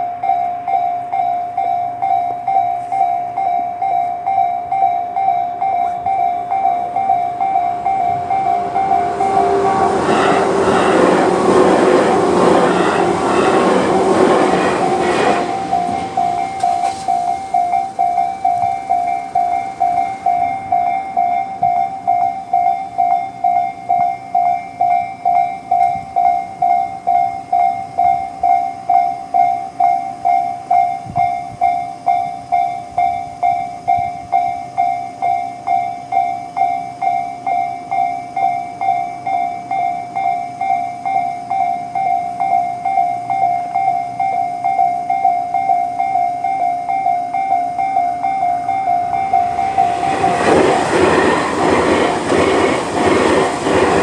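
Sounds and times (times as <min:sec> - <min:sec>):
level-crossing warning bell: 0:00.0 - 0:54.0
passing train: 0:00.0 - 0:54.0.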